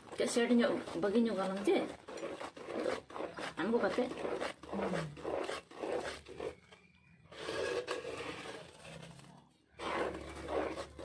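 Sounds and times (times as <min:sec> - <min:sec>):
rhythmic scraping strokes: 0:00.2 - 0:11.0.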